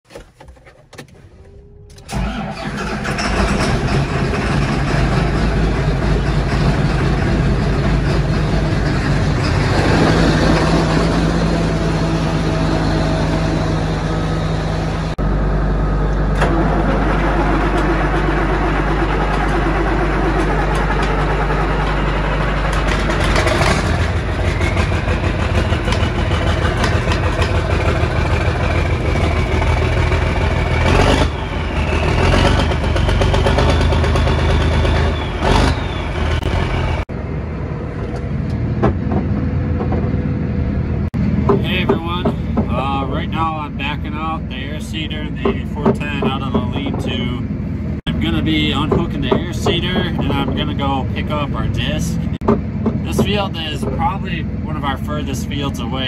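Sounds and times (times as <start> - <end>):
tractor diesel engine idling: 1.6 - 38.6, 41.1 - 56.0.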